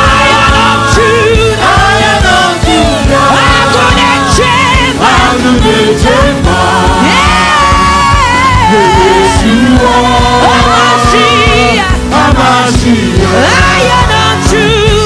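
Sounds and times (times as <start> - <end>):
gospel band playing: 0.0 - 15.0
people singing: 0.0 - 15.0.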